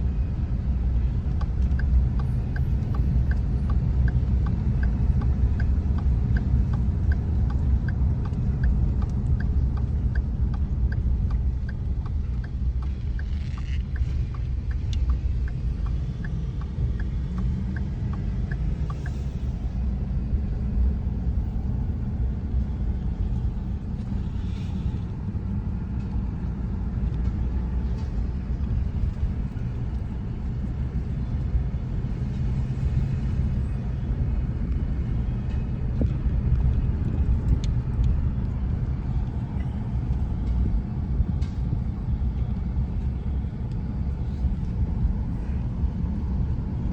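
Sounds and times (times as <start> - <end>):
truck engine and road rumble: 0.0 - 46.9
light regular ticking: 0.6 - 45.6.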